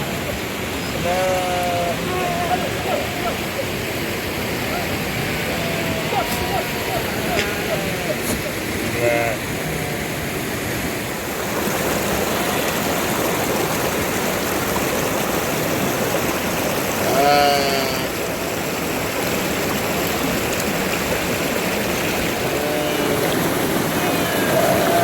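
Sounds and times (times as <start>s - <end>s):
water rushing: 0.0s - 25.0s.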